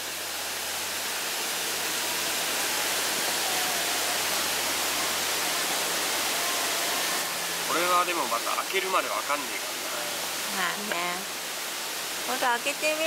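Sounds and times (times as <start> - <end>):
mountain creek rushing: 0.0 - 13.0.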